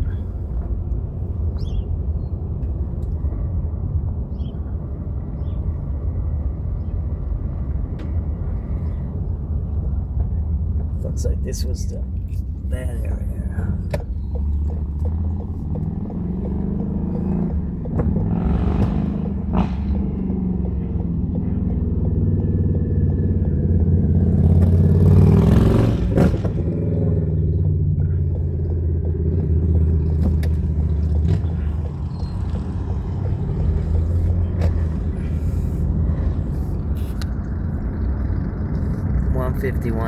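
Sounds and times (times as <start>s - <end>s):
car engine and road drone: 0.0s - 40.0s.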